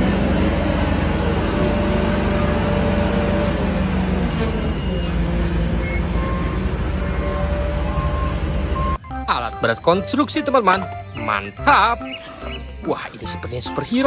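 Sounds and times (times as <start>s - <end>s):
heavy engine rumbling: 0.0s - 14.0s.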